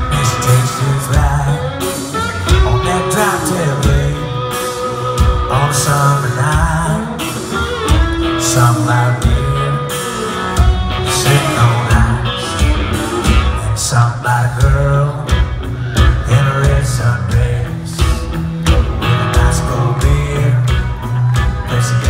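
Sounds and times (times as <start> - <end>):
live country-rock band: 0.0 - 22.0
man singing: 0.0 - 22.0.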